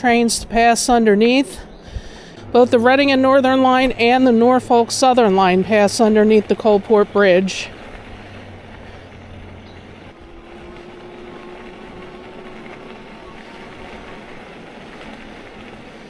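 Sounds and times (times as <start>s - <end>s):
bicycle tyres rolling: 0.0s - 16.0s.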